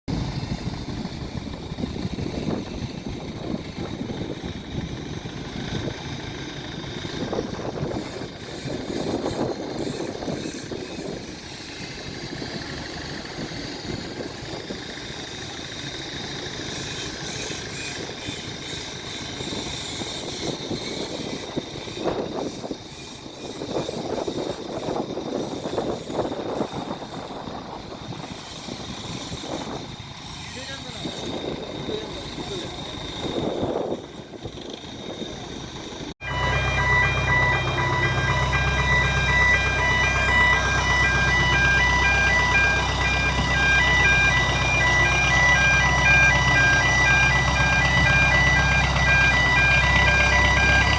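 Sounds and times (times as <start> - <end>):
heavy machine engine running: 0.1 - 23.0, 24.6 - 50.9.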